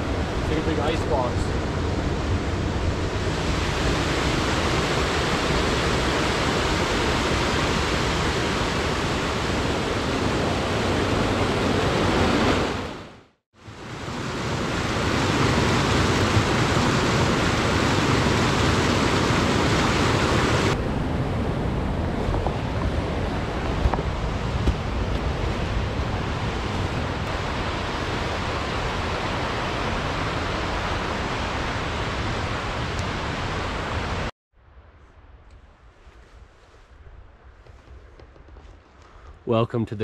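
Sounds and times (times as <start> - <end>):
steady outdoor rushing noise: 0.0 - 34.3.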